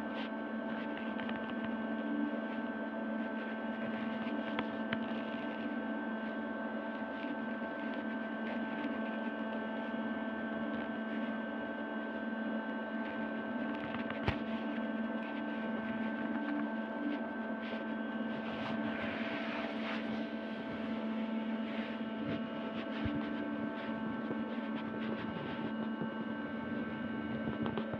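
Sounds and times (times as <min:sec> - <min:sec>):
steady hum of held tones: 0:00.0 - 0:27.9.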